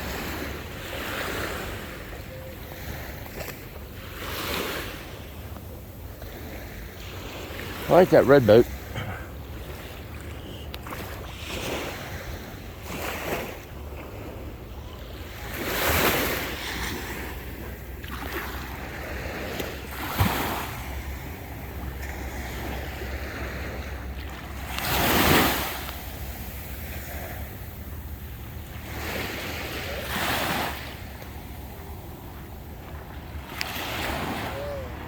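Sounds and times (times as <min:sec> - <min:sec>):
waves washing on sandy beach: 0:00.0 - 0:35.0.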